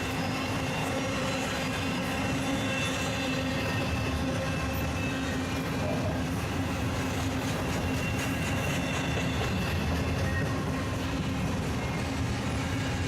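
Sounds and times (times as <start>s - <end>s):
high wheel squeal: 0.0s - 6.2s, 6.8s - 13.0s
freight train rumbling on rails: 0.0s - 13.0s.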